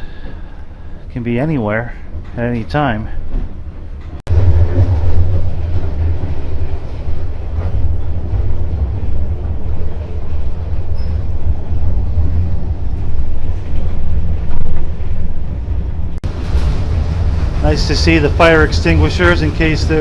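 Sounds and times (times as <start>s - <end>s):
train carriage rumbling on rails: 2.0s - 20.0s.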